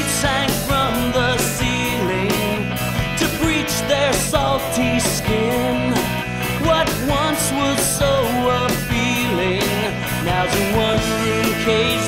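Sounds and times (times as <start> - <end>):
rock song with full band: 0.0 - 12.0.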